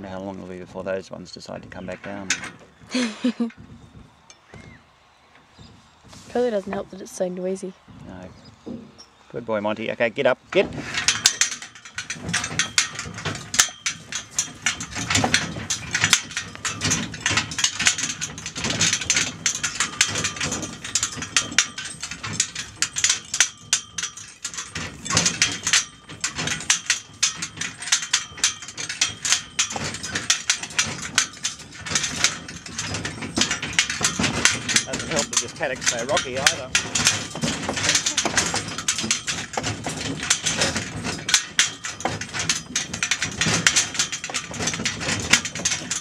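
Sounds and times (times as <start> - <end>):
cart and harness clattering: 0.0 - 46.0.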